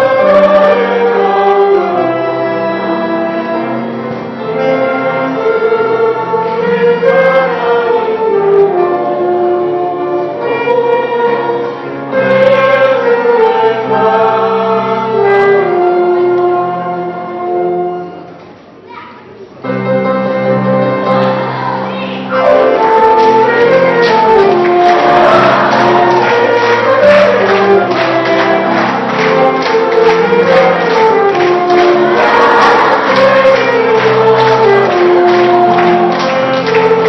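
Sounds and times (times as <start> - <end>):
church choir singing: 0.0 - 8.8, 10.4 - 17.4, 21.1 - 37.0.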